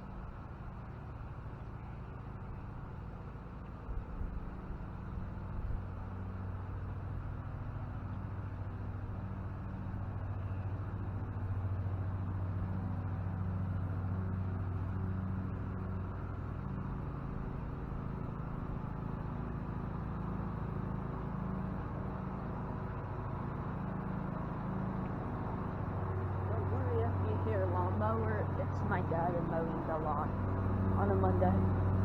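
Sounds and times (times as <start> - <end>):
lawn mower engine running: 6.1 - 32.0.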